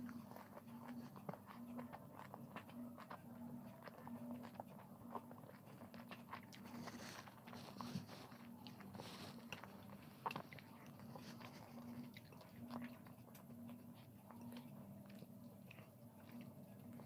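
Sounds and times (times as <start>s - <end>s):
faint low hum: 0.0s - 17.0s
person chewing and biting: 0.0s - 17.0s.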